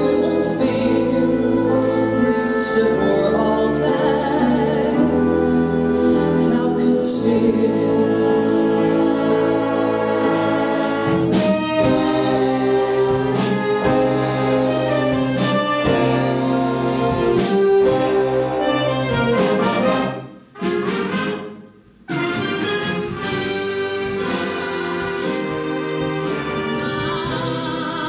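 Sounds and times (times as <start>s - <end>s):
brass orchestra playing: 0.0s - 28.0s.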